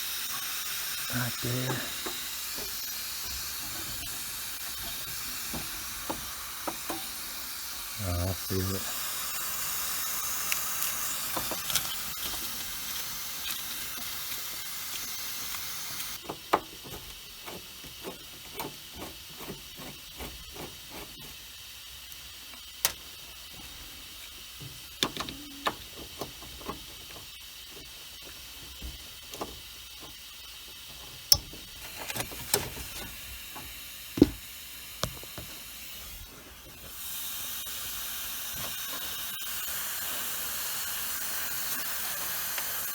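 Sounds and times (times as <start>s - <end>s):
refrigerant hissing from leak: 0.0s - 42.9s.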